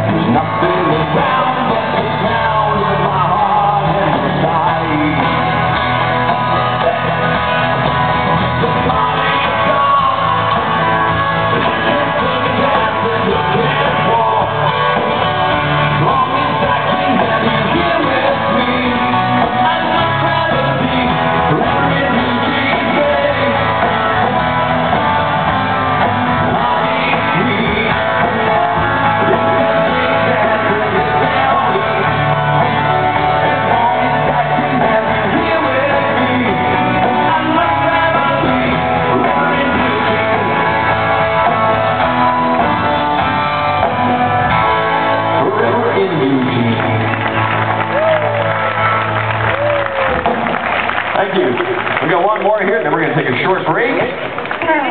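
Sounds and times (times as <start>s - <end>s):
lead singer singing: 0.0s - 46.8s
live band playing: 0.0s - 54.9s.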